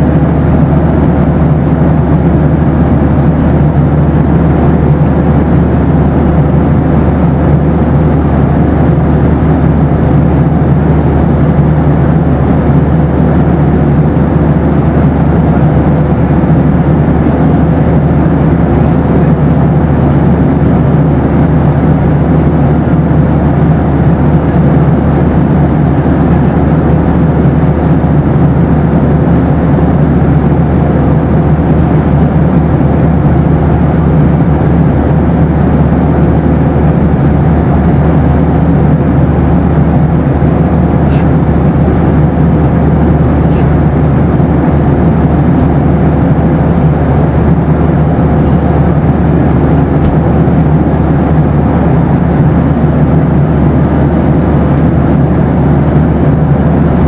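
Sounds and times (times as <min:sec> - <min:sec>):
airliner cabin engine and airflow rush: 0:00.0 - 0:57.0.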